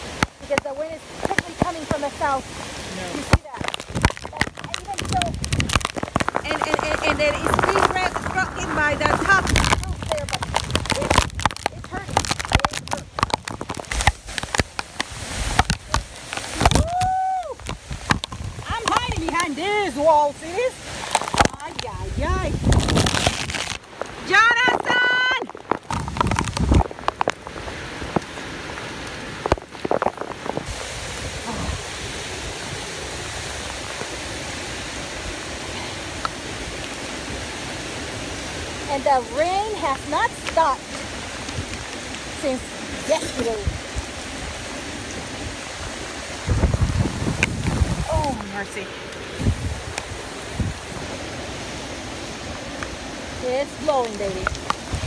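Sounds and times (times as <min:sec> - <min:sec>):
heavy rain: 0:00.0 - 0:55.0
wind and rain hitting microphone: 0:00.0 - 0:55.0
strong wind gusting: 0:00.8 - 0:55.0.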